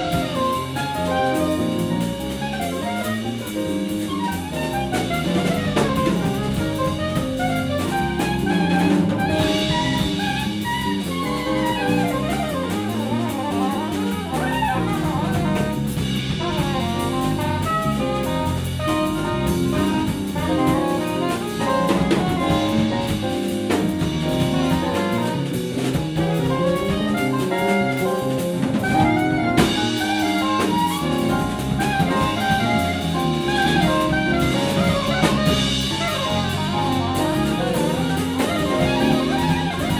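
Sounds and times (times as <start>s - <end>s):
jazz band music: 0.0s - 39.9s.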